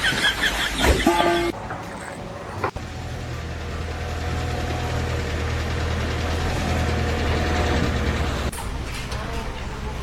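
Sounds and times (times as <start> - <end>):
engine rumbling: 1.5 - 10.0.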